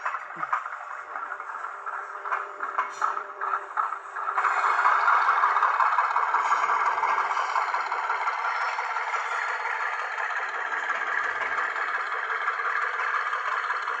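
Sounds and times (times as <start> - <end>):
model railcar rattling on track: 0.0 - 14.0.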